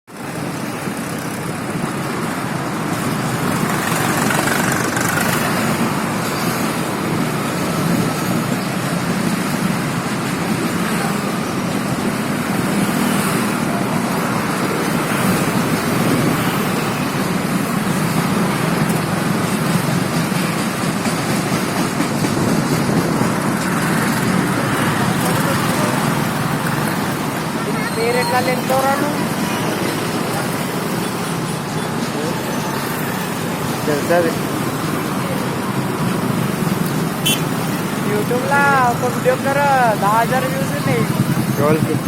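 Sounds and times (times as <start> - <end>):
freight train rumbling and rattling: 0.2 - 42.0.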